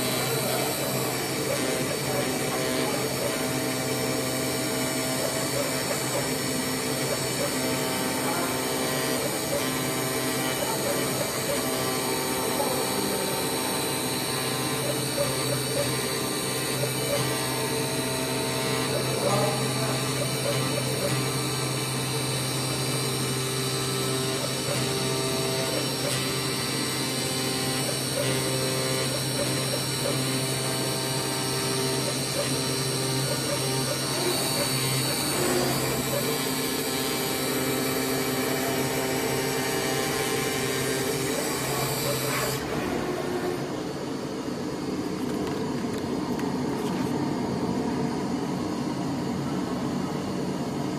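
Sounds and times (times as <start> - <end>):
cutting machine whine: 0.0 - 50.9
machine hum: 0.0 - 50.9.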